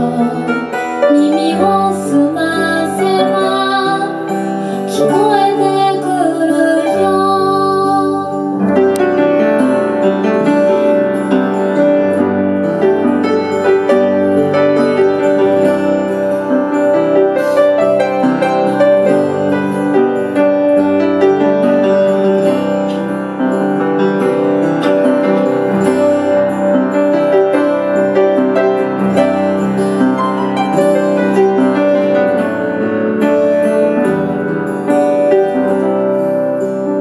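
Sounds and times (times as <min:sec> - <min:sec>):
acoustic guitar: 0:00.0 - 0:37.0
piano: 0:00.0 - 0:37.0.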